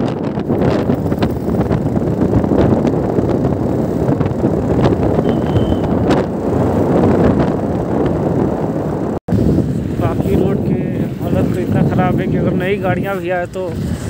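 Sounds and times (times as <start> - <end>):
motorcycle engine drone: 0.0 - 14.0
tyres on the road: 0.0 - 14.0
wind buffeting the microphone: 0.0 - 14.0.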